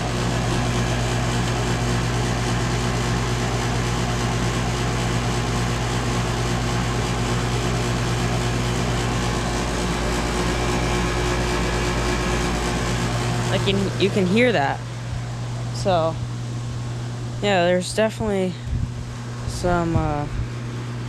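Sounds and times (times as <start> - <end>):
air conditioner hum and buzz: 0.0 - 21.0
rush of fan air: 0.0 - 21.0.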